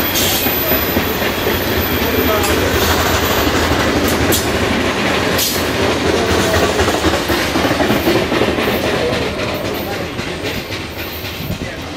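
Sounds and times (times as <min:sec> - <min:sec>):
train wheels clattering on rails: 0:00.0 - 0:11.9.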